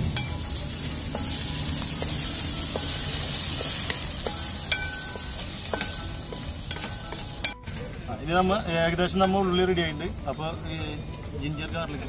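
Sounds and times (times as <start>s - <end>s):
onions sizzling in pan: 0.0s - 11.6s
spatula scraping metal pan: 0.1s - 9.8s.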